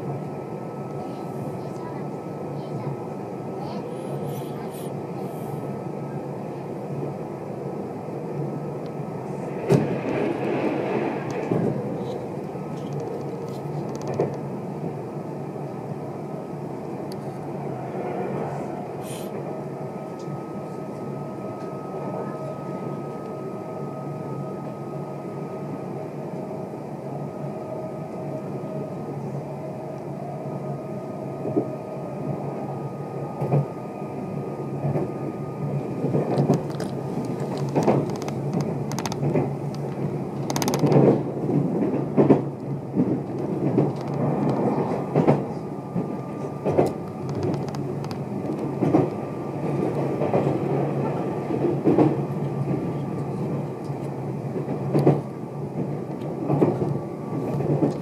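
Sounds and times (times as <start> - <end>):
electric train rumble and whine: 0.0 - 58.0.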